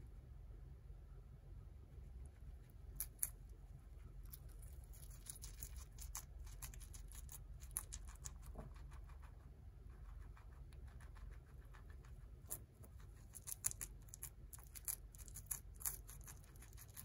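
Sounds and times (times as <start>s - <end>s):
guinea pig chewing lettuce: 1.9s - 17.0s.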